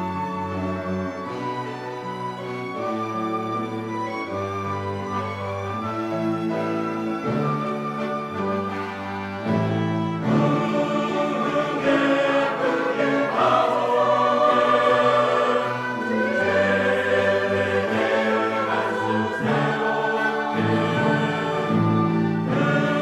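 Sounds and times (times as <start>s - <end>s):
church choir singing: 0.0s - 23.0s
low accompanying notes: 0.0s - 23.0s.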